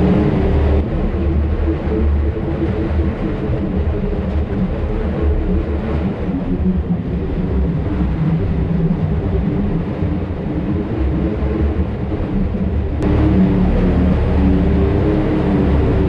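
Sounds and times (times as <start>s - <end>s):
vehicle engine low drone: 0.0s - 16.0s.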